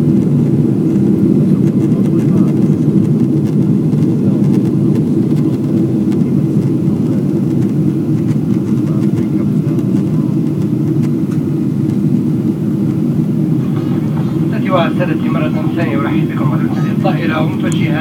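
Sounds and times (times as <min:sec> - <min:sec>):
jet engines: 0:00.0 - 0:18.0
rushing air in aircraft cabin: 0:00.0 - 0:18.0.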